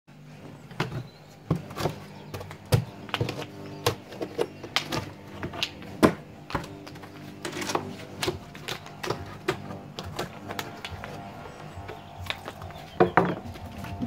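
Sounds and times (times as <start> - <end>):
cardboard panels knocking: 0.7 - 14.0.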